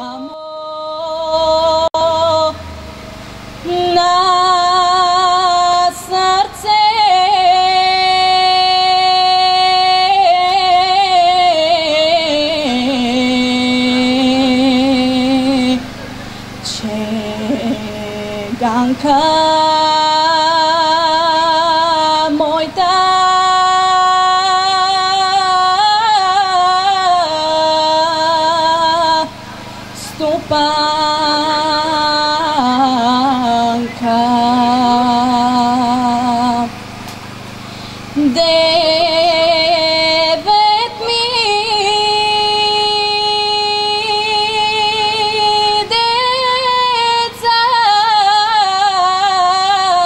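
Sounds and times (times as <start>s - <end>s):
woman singing folk song: 0.0s - 2.6s, 3.6s - 16.0s, 16.6s - 36.8s, 38.0s - 50.0s.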